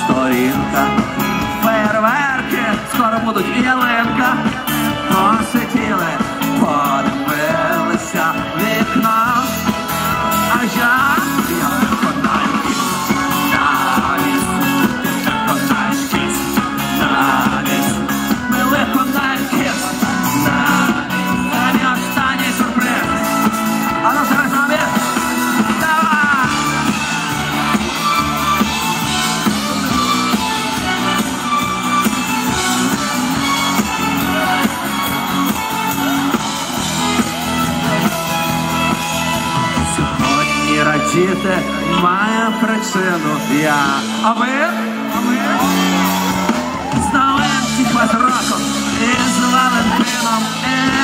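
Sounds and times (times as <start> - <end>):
drums keeping steady beat: 0.0 - 42.5, 43.1 - 51.0
electric guitar: 0.0 - 51.0
live pop-rock band: 0.0 - 51.0.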